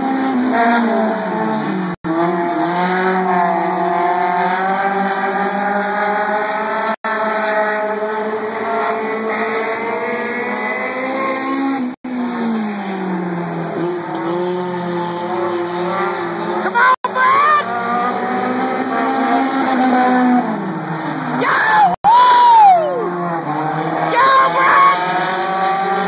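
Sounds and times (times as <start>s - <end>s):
stock car engines racing: 0.0s - 26.0s.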